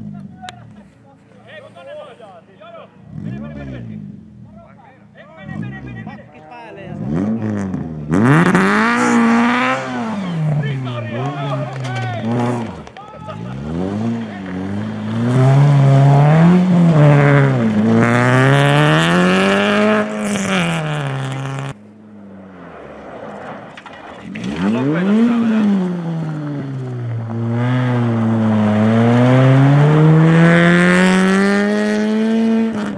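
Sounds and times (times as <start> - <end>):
rally car engines revving: 2.5 - 32.9.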